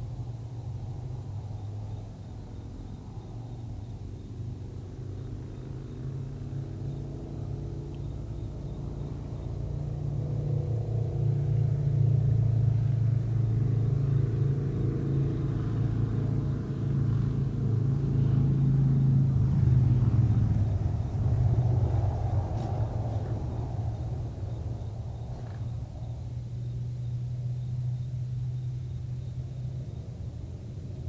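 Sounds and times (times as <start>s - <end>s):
low droning rumble: 0.0s - 31.0s.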